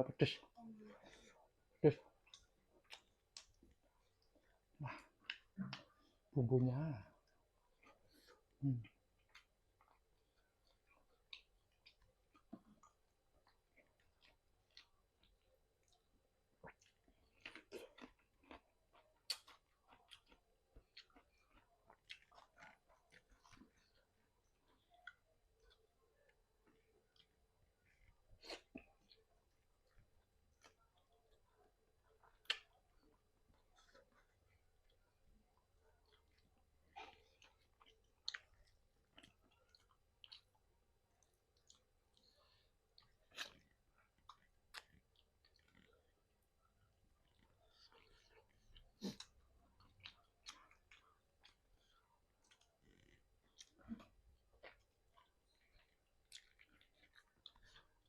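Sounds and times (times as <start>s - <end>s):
person chewing fried chicken: 2.1s - 6.1s, 7.7s - 58.0s.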